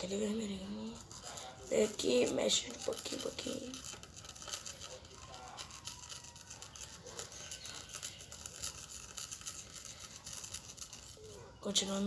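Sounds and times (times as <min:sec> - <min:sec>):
pen scraping through slime: 0:00.0 - 0:12.0.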